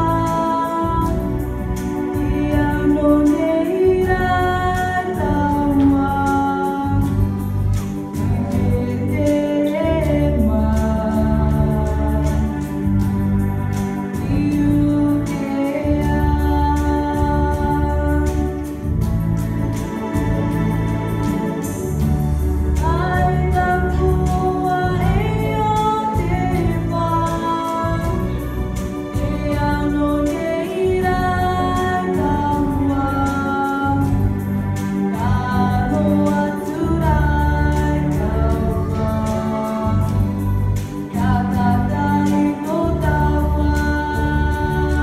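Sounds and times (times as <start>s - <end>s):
woman singing hymn through microphone: 0.0s - 7.4s, 8.1s - 13.0s, 14.1s - 19.0s, 22.8s - 34.4s, 35.0s - 45.0s.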